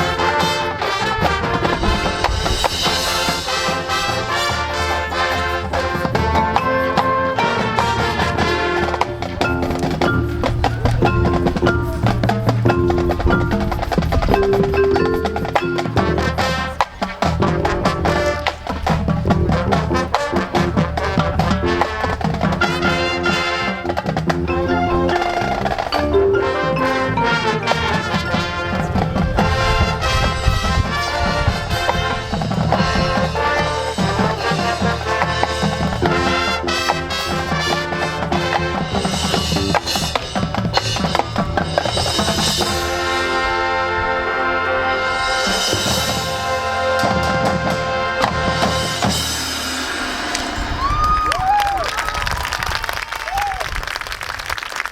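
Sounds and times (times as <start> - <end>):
marimba and xylophone: 0.0 - 43.8, 45.1 - 50.8
brass: 0.0 - 51.1
drums: 0.0 - 54.9.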